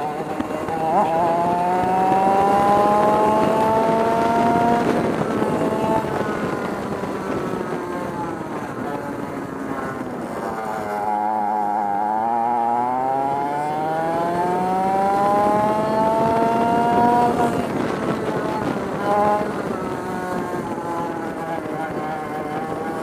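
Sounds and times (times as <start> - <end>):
two-stroke kart engine revving: 0.0 - 23.0.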